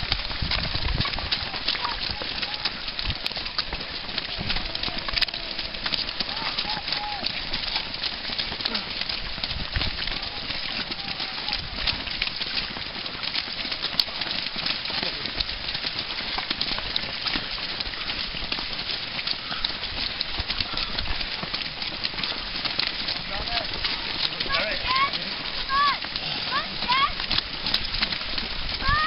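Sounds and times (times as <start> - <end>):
grass rustling: 0.0 - 29.0
runners' footsteps on rough path: 0.0 - 29.0.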